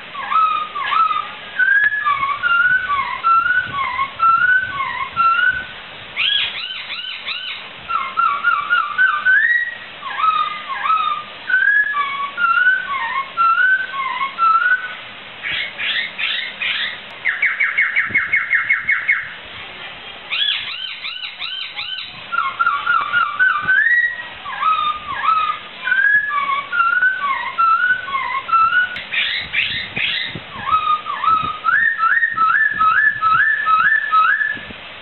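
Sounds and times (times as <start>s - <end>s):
fast bird trill: 0.0s - 19.4s, 20.3s - 34.7s
bird singing whistled phrases: 0.1s - 19.4s, 20.3s - 34.7s.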